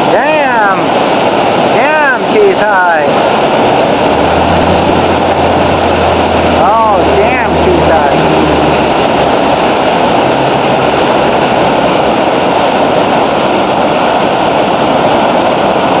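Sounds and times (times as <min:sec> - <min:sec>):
water pouring over dam: 0:00.0 - 0:16.0.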